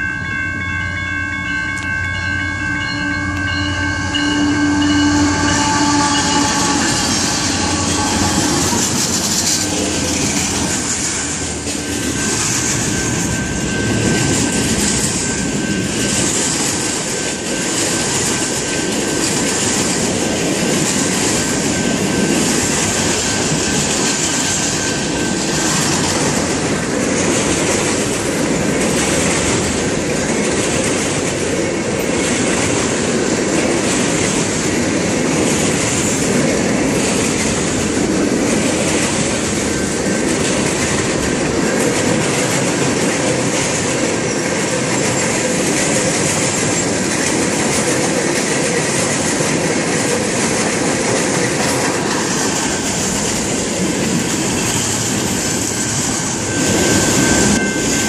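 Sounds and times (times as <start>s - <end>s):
diesel locomotive engine: 0.0s - 58.0s
train wheels rumbling on rails: 0.0s - 58.0s
wheels clattering over rail joints: 6.2s - 58.0s.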